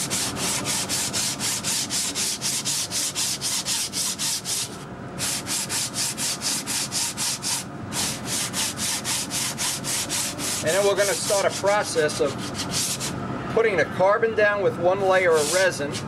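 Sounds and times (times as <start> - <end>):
hand sanding strokes: 0.0 - 13.2, 14.9 - 16.0.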